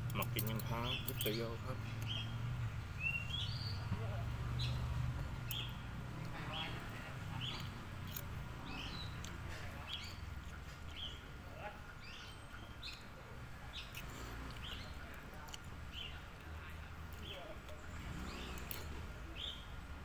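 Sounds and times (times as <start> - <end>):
bird chirping: 0.1 - 16.3, 17.1 - 19.8.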